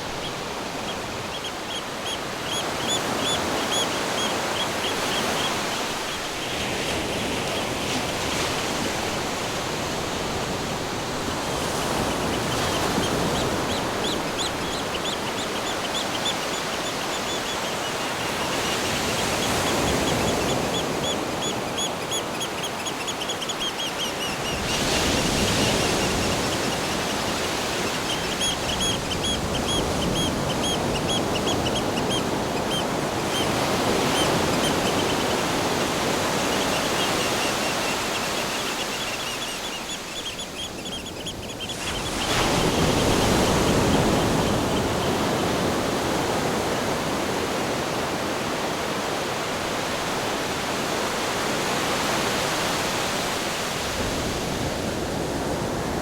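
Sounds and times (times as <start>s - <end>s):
ocean waves: 0.0s - 56.0s.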